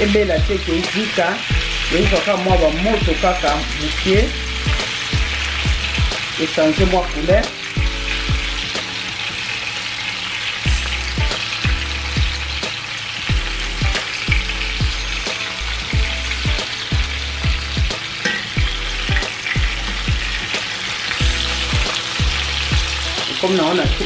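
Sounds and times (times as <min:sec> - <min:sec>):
deep bass beat music: 0:00.0 - 0:08.8, 0:10.7 - 0:20.6, 0:21.2 - 0:24.0
fish sizzling in a frying pan: 0:00.0 - 0:24.0.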